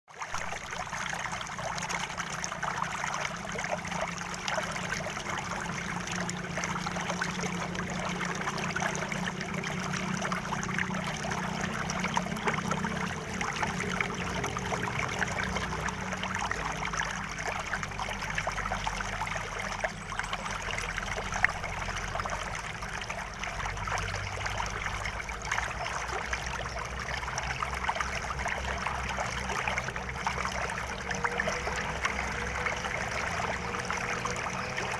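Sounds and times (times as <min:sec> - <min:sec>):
river water babbling: 0:00.1 - 0:34.9.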